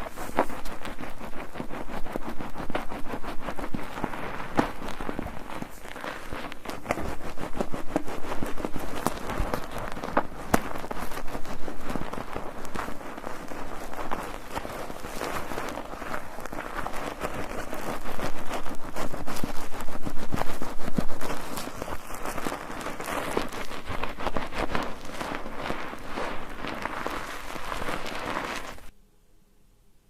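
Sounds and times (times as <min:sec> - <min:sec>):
soap lather squelching and crackling: 0:00.0 - 0:28.9.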